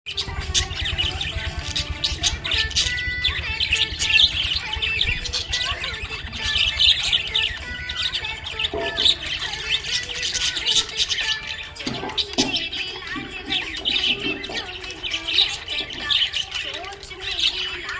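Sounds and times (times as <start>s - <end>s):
budgerigars chirping and chattering: 0.1s - 17.9s.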